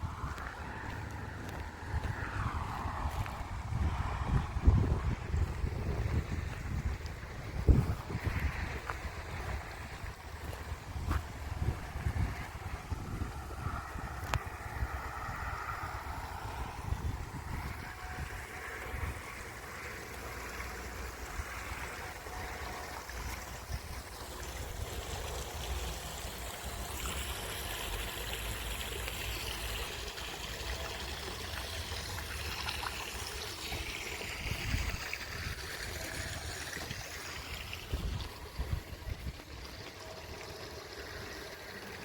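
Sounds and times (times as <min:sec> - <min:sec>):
spring water trickling and splashing: 0:00.0 - 0:42.0.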